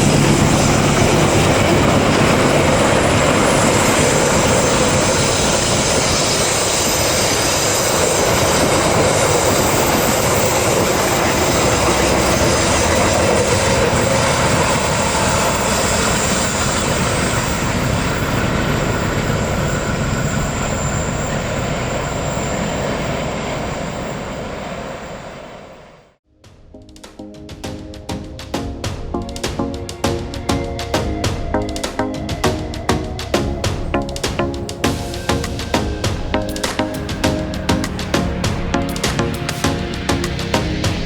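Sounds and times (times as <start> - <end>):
passenger train rumbling past: 0.0 - 26.0, 27.8 - 41.0.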